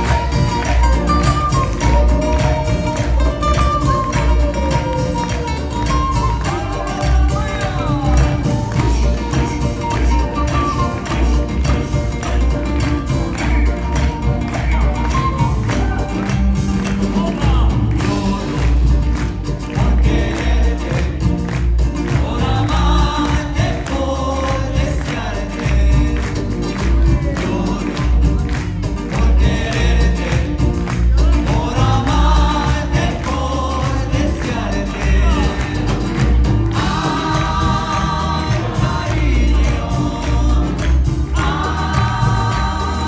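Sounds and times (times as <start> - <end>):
pulsing bass: 0.0 - 43.0
steady percussion: 0.0 - 43.0
voices singing together: 0.0 - 43.0.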